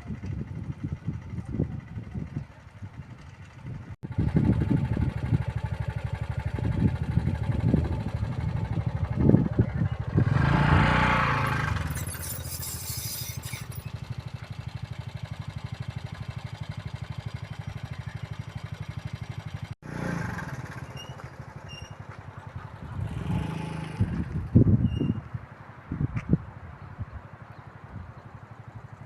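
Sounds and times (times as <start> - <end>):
vehicle engine running: 0.0 - 24.8.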